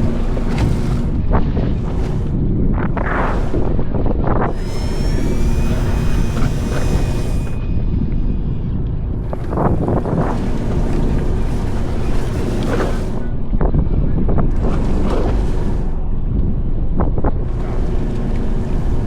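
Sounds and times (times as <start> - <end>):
thin high whine: 0.0 - 16.6
fishing boat engine running: 0.0 - 19.0
wind buffeting microphone: 0.0 - 19.0.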